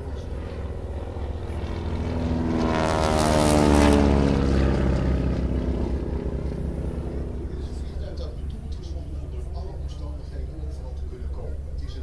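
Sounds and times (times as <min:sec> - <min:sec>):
propeller airplane flying past: 0:00.0 - 0:12.0.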